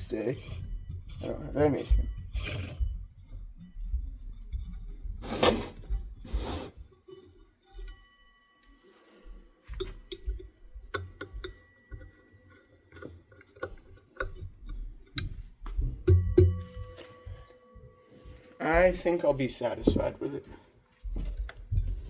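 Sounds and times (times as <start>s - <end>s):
hard parts clicking and clinking: 0.0s - 8.8s, 9.6s - 20.6s.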